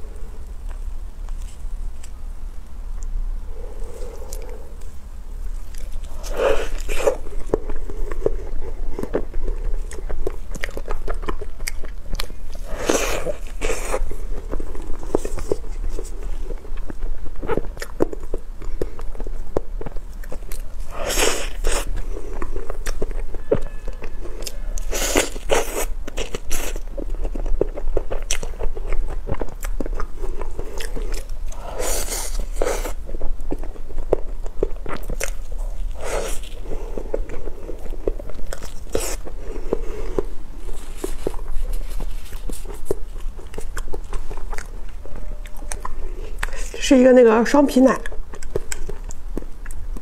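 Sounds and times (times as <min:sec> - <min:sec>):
wet chewing and mouth smacks: 0:02.9 - 0:46.8, 0:48.0 - 0:50.0.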